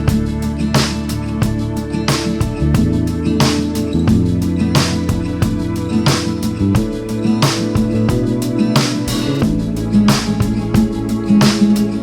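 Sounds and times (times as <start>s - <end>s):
plucked guitar music: 0.0s - 12.0s
steady beat: 0.0s - 12.0s.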